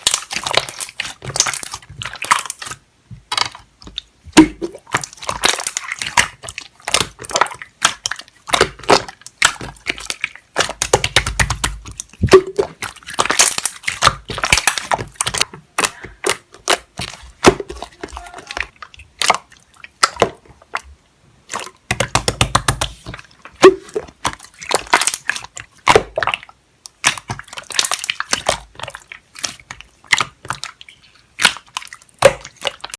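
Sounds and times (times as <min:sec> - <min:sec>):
slime squeezed by hand: 0:00.0 - 0:20.8, 0:21.5 - 0:32.9.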